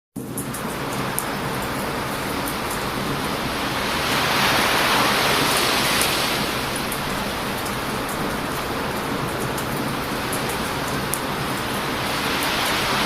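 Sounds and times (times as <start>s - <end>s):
campfire crackling: 0.2s - 13.0s
ocean waves breaking: 0.6s - 13.0s.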